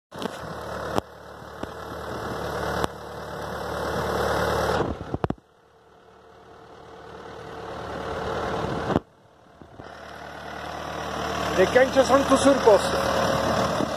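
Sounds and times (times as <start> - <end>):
tractor diesel engine running: 0.1 - 13.9.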